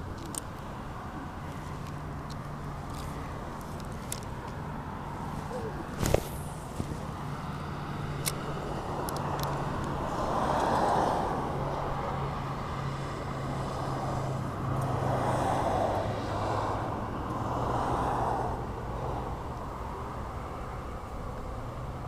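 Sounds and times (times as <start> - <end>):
low engine hum: 0.0 - 22.0
vehicles going by: 0.0 - 22.0.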